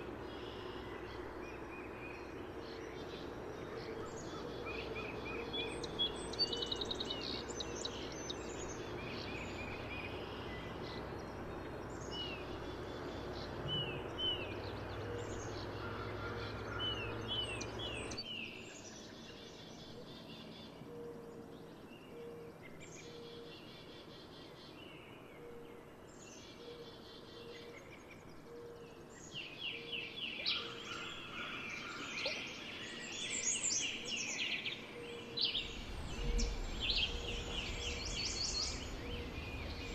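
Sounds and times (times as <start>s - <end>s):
songbirds singing and chirping: 0.0s - 39.9s
steady outdoor hiss: 0.0s - 39.9s.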